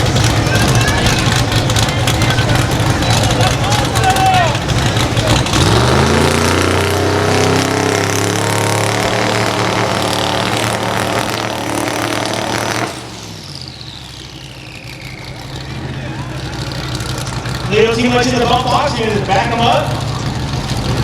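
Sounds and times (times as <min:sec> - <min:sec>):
falling whine: 0:00.0 - 0:21.0
truck engine revving high: 0:00.0 - 0:21.0.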